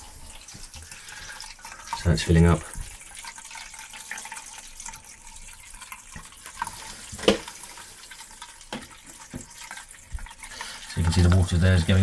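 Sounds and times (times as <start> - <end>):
water hissing into toilet cistern: 0.0 - 12.0
water trickling: 0.0 - 12.0.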